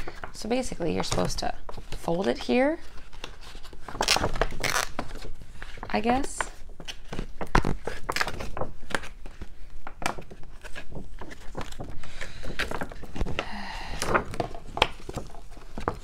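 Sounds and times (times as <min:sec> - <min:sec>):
plastic rustling and crinkling: 0:00.0 - 0:16.0.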